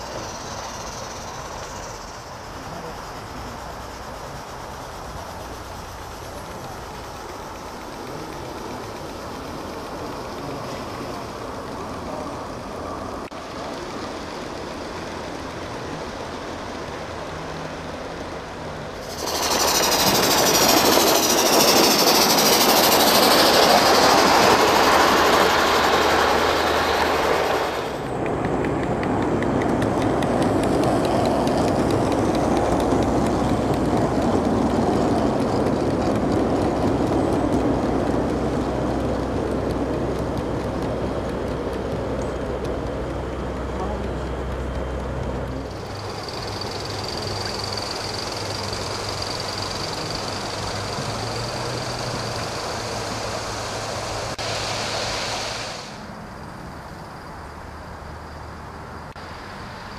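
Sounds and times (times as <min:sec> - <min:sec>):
model train wheels clicking on rail: 0:00.0 - 0:54.4
steam locomotives hissing: 0:00.0 - 0:56.3.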